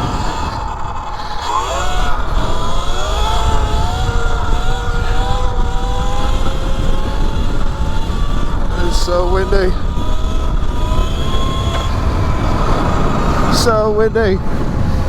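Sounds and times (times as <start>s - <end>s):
electric dirt bike motor whining: 0.0s - 15.0s
wind buffeting microphone: 0.0s - 15.0s.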